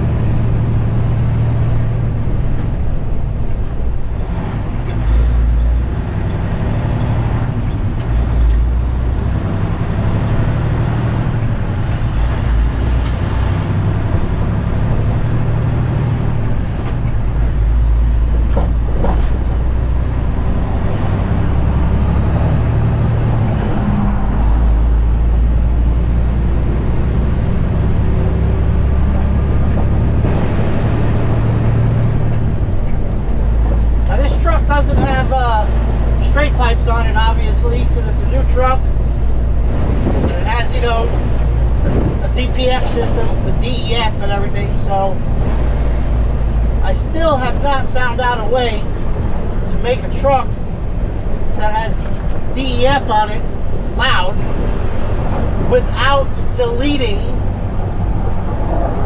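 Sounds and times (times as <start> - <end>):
truck diesel engine rumble: 0.0 - 59.0.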